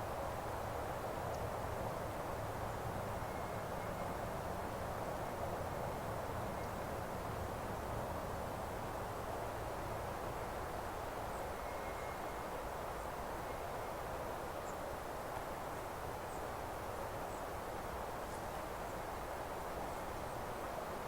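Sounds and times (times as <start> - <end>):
rushing meadow ambience: 0.0 - 21.0.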